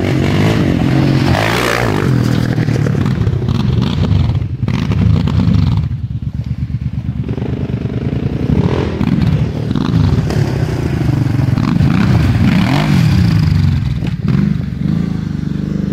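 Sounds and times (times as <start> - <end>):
quad bike engine revving: 0.0 - 15.9.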